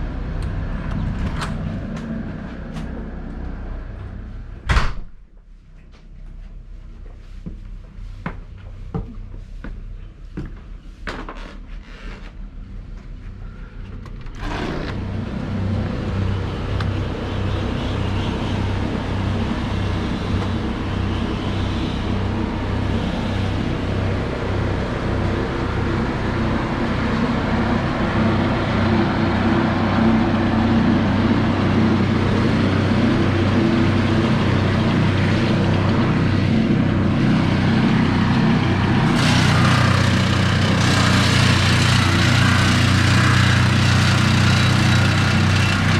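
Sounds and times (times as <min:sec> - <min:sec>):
engine running: 0:00.0 - 0:04.7, 0:12.2 - 0:45.9.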